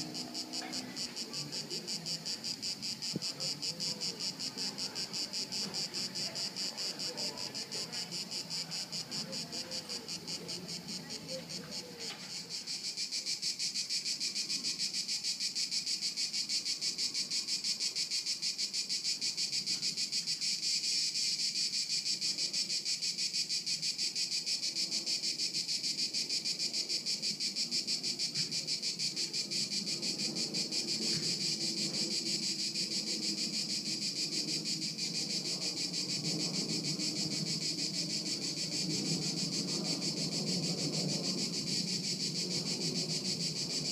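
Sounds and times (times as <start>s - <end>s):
insects buzzing: 0.0s - 43.9s.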